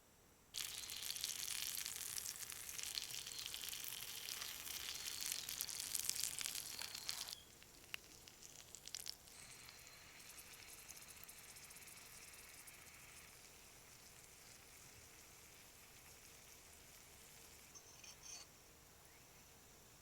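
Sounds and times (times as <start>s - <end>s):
wood fire crackling: 0.6s - 17.8s.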